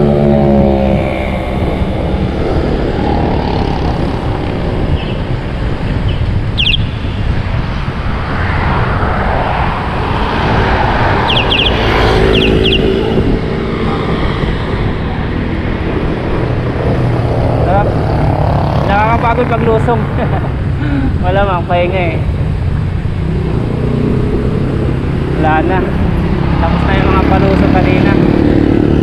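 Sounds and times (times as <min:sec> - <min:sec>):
passing road traffic: 0:00.0 - 0:29.0
wind buffeting microphone: 0:00.0 - 0:29.0.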